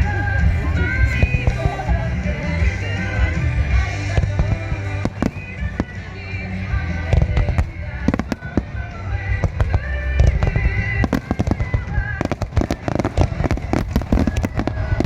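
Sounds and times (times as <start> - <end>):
fireworks bursting: 0.0 - 15.0
sung pop ballad: 0.0 - 15.0.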